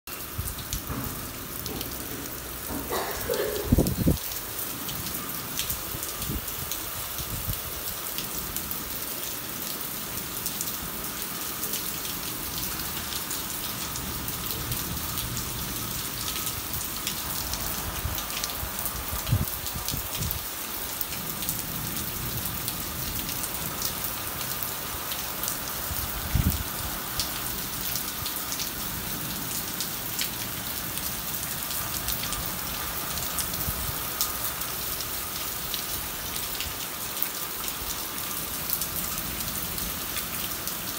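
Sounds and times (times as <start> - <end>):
steady rain falling: 0.1 - 40.9.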